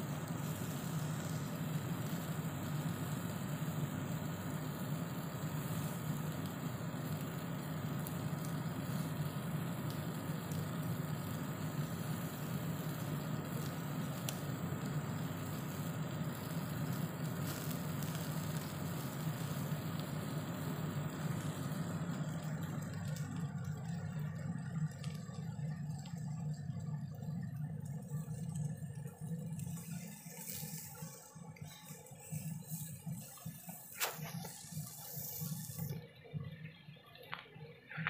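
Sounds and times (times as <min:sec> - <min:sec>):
chicken sizzling on a grill: 0:00.0 - 0:36.2
faint crackles: 0:00.0 - 0:38.0
steady low hum: 0:00.0 - 0:38.0.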